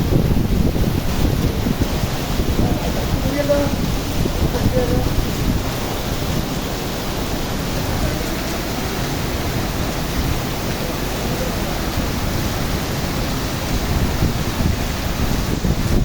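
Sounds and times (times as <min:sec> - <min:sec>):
heavy rain rushing: 0:00.0 - 0:16.0
wind rumbling on microphone: 0:00.0 - 0:16.0.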